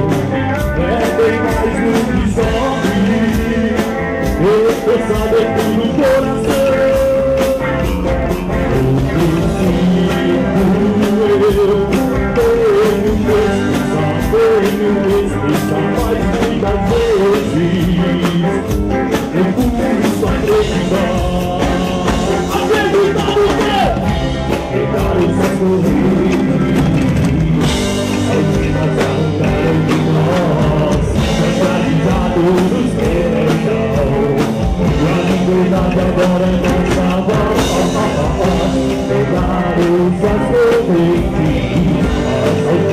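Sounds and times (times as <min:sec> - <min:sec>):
bass guitar: 0:00.0 - 0:42.9
drum kit: 0:00.0 - 0:42.9
electric guitar: 0:00.0 - 0:42.9
person singing: 0:00.0 - 0:42.9.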